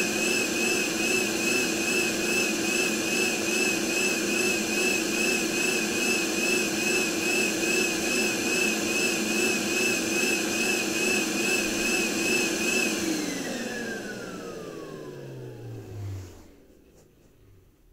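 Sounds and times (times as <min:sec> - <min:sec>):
handheld vacuum cleaner whine: 0:00.0 - 0:16.8.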